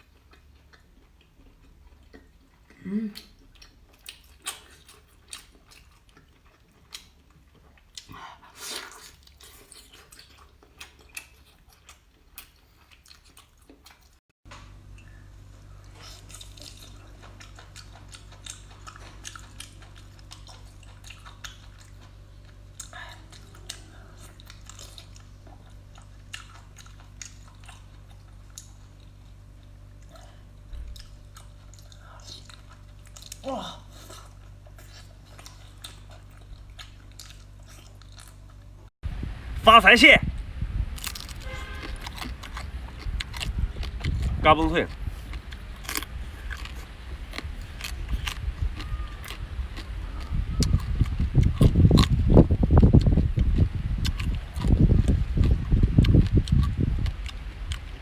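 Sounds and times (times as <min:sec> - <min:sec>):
chewing and biting seafood: 0:00.0 - 0:14.2, 0:15.0 - 0:38.9, 0:40.9 - 0:58.0.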